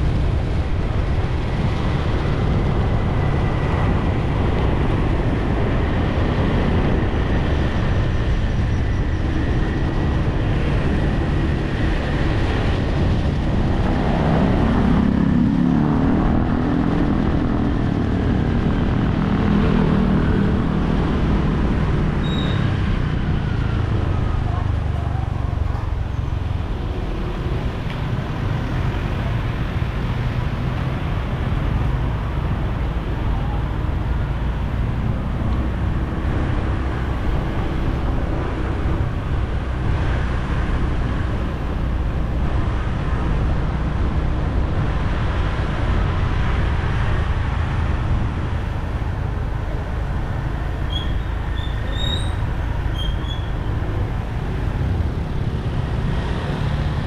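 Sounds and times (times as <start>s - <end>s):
scooter engine and road noise: 0.0s - 57.0s.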